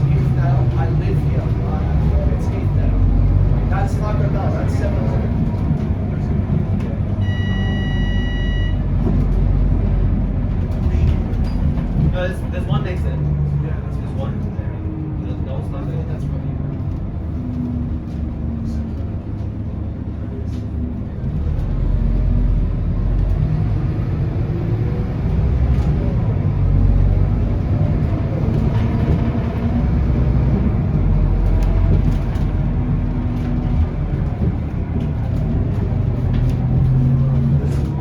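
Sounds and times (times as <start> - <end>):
bus diesel engine: 0.0 - 38.0
road noise: 0.0 - 38.0.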